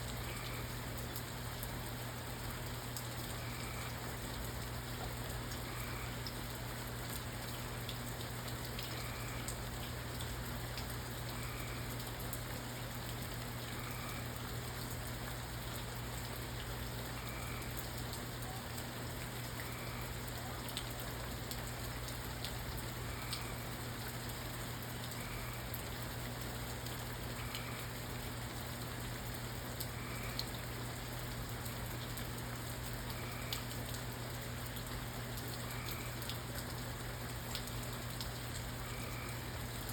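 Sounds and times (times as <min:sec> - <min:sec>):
constant low hum: 0:00.0 - 0:39.9
steady rain falling: 0:00.0 - 0:39.9.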